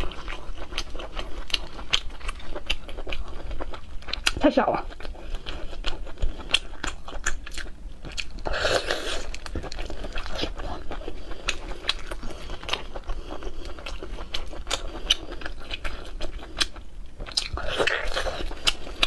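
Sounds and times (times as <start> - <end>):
chewing with wet smacks: 0.0 - 19.0.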